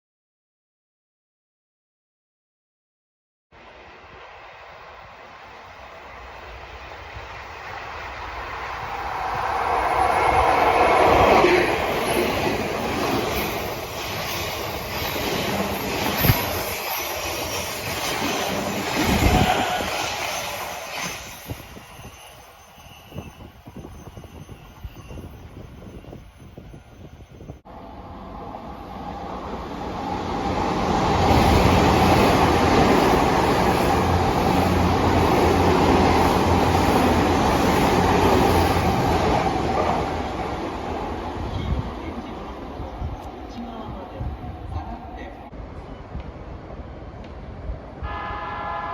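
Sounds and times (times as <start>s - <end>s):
electric train running past: 3.6s - 48.9s.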